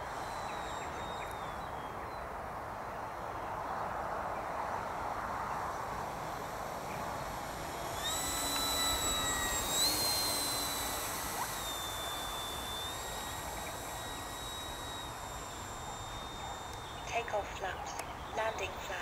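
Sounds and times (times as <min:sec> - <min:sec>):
model plane motor whining overhead: 0:00.0 - 0:19.0.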